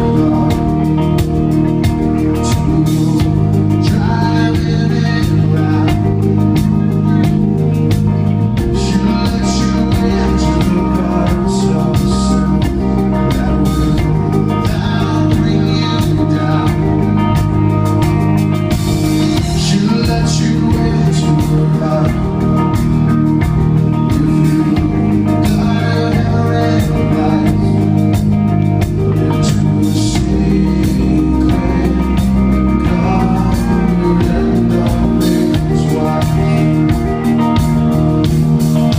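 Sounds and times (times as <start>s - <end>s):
electric guitar: 0.0s - 38.9s
live rock band playing: 0.0s - 38.9s
man singing: 0.0s - 38.9s.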